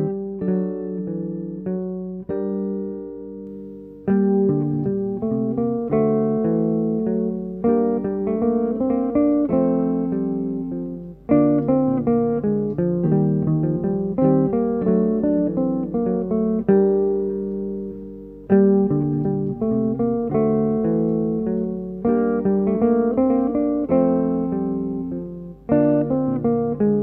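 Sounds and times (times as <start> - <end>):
electric guitar chord ringing: 0.0 - 27.0.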